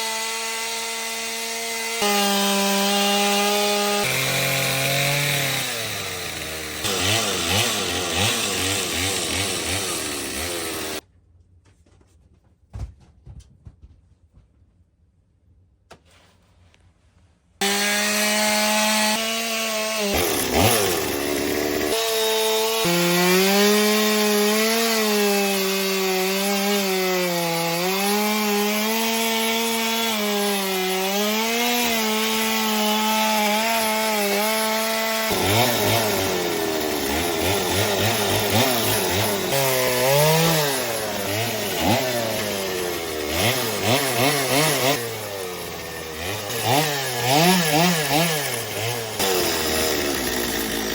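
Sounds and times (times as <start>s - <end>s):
chainsaw cutting wood: 0.0s - 11.0s, 17.6s - 50.9s.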